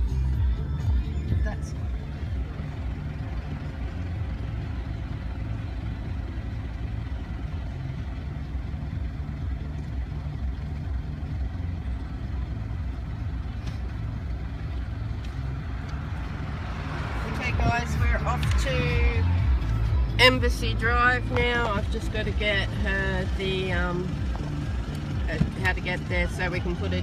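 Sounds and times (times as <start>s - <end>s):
car driving slowly: 0.0s - 27.0s.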